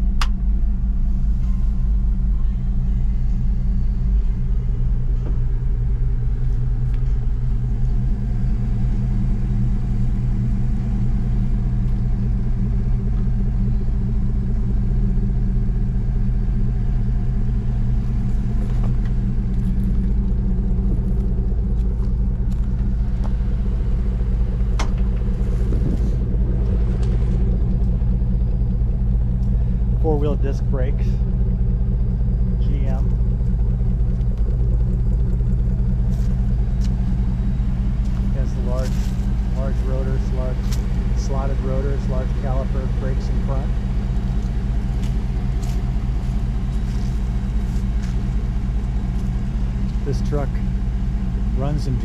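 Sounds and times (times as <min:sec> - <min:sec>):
pickup truck engine idling: 0:00.0 - 0:52.0.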